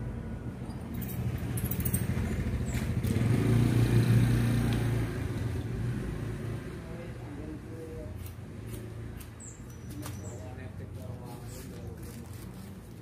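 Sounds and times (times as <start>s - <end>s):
vehicle engine passing by: 0.9s - 11.4s.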